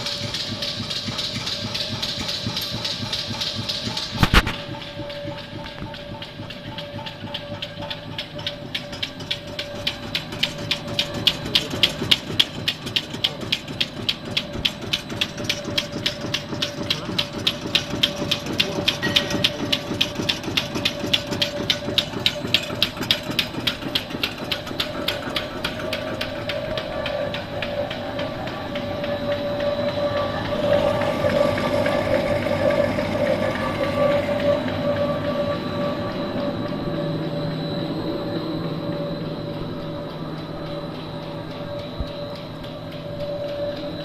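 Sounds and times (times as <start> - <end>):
rapid mechanical clacking: 0.0 - 44.0
steady machine tone: 0.0 - 44.0.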